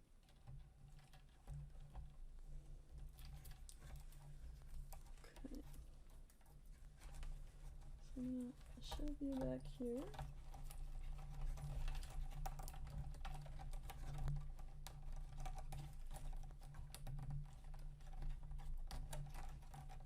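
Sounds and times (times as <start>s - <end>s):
plastic parts clicking and rustling: 2.9s - 20.0s.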